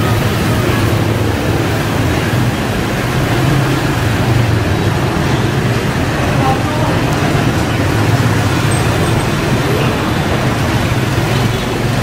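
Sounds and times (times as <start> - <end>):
motor scooters riding past: 0.0 - 12.0
street traffic: 0.0 - 12.0.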